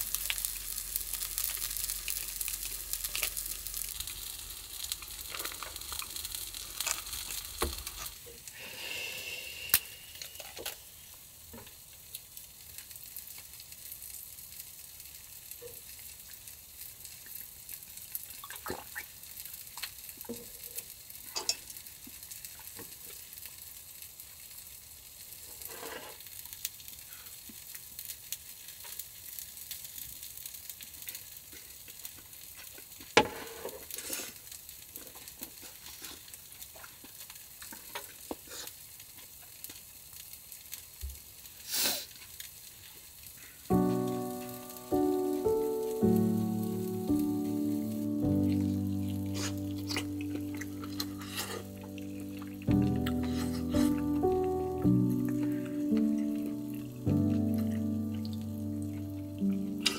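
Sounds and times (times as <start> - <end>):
food sizzling on a hot plate: 0.0 - 59.9.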